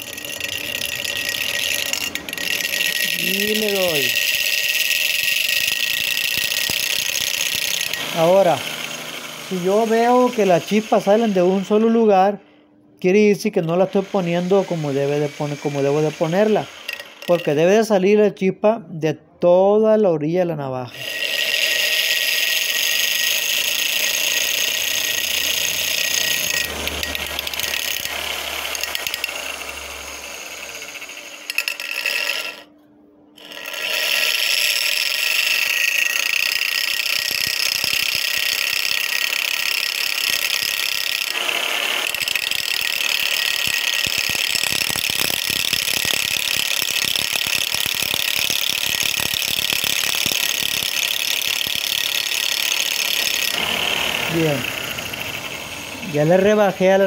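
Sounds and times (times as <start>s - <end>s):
bench grinder grinding steel: 0.0s - 12.3s, 13.4s - 17.9s, 20.9s - 32.7s, 33.4s - 57.0s.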